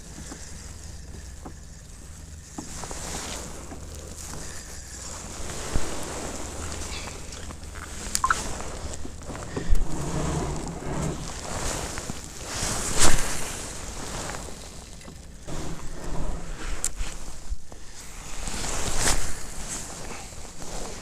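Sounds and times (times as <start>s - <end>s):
water sloshing against hull: 0.0s - 21.0s.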